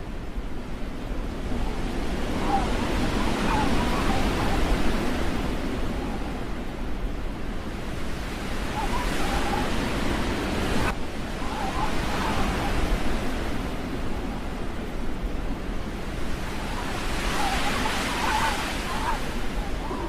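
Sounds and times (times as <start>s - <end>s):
rushing wind: 0.0s - 20.0s.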